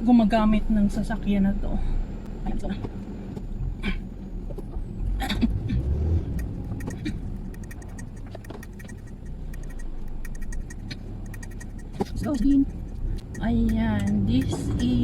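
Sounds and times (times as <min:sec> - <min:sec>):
low rumble inside a car: 0:00.0 - 0:15.0.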